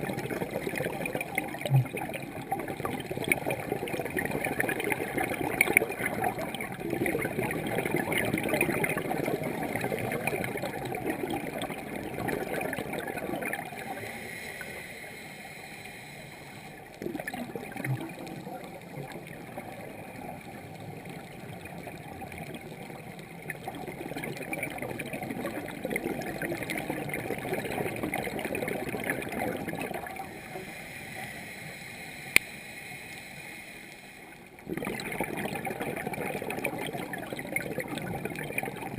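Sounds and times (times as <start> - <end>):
underwater breathing bubbles: 0.0 - 38.9.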